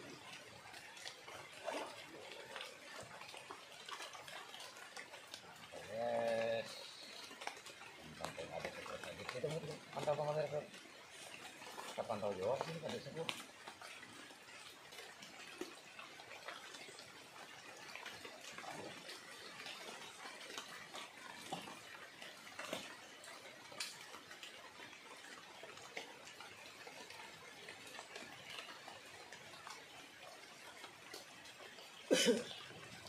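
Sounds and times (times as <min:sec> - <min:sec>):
rain falling on river and leaves: 0:00.0 - 0:33.0
raindrop ticks: 0:00.0 - 0:33.0.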